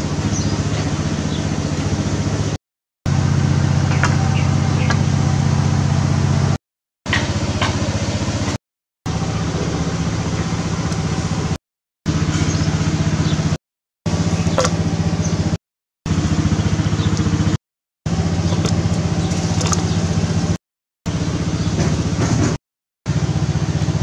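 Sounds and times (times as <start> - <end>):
low motor hum: 0.0 - 24.0.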